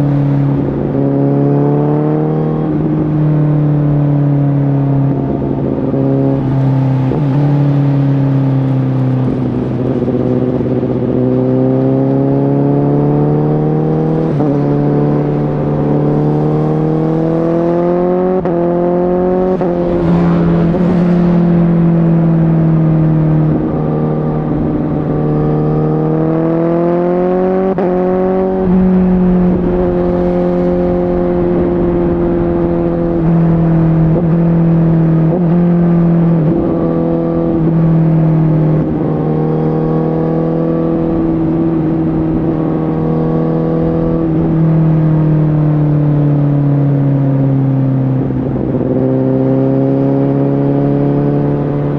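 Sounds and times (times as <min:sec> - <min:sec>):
motorcycle engine revving: 0:00.0 - 0:51.9
wind and road noise: 0:00.0 - 0:51.9.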